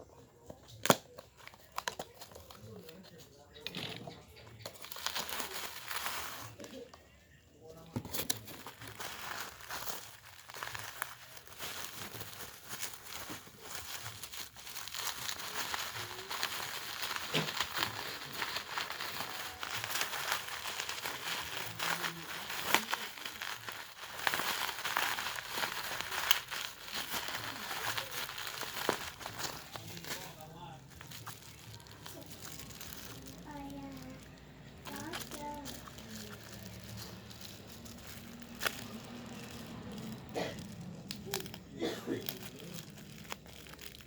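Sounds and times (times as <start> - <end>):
packaging crinkling and rustling: 0.1 - 44.0.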